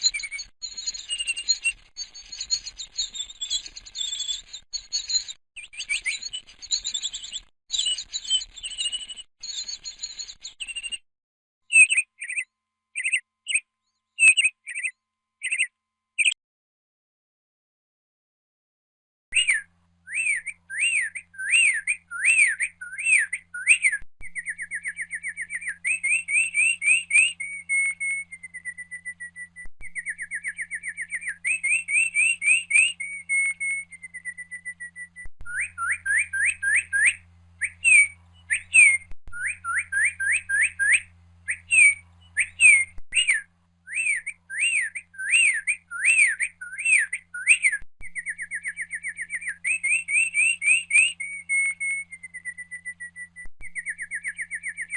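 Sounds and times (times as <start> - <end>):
songbird singing: 0.0 - 11.0, 11.7 - 16.4, 19.4 - 54.9.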